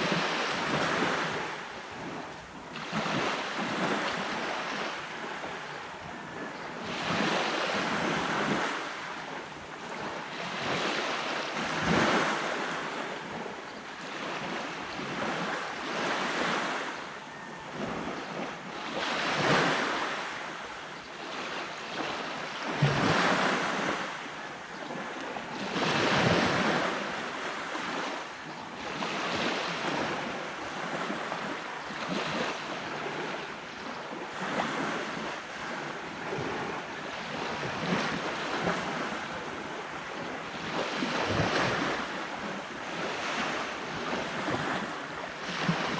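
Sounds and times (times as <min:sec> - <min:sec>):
sea waves washing onto beach: 0:00.0 - 0:45.9
wind on microphone: 0:00.0 - 0:45.9.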